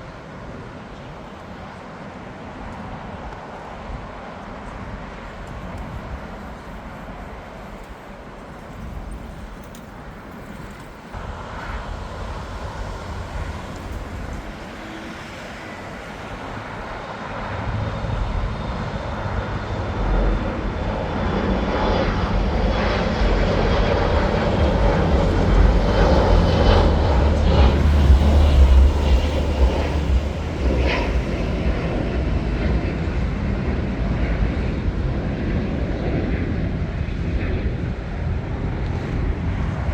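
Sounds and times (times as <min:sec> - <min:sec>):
jet engines rumbling: 0:00.4 - 0:39.9.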